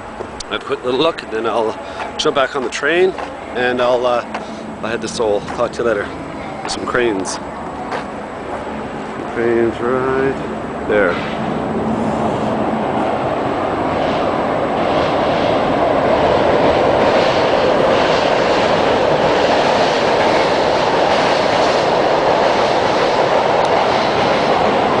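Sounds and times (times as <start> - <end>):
electric train rushing on tracks: 0.0 - 25.0.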